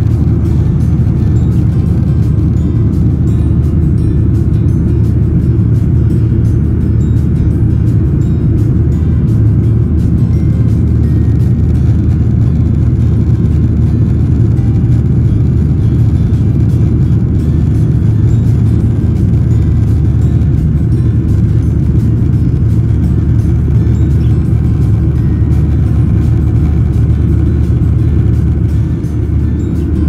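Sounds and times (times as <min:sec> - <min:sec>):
jet engines from inside cabin: 0:00.0 - 0:30.0.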